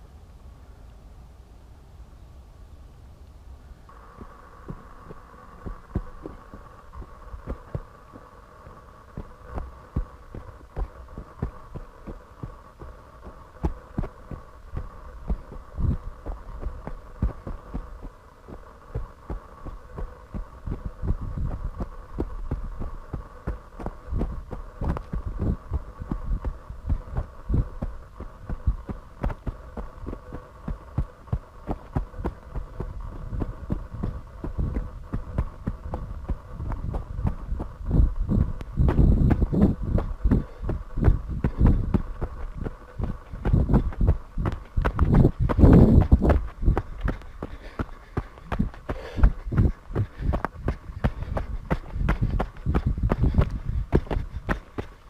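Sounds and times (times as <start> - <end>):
steady high hum: 0.0 - 55.0
running footfalls thudding: 4.2 - 55.0.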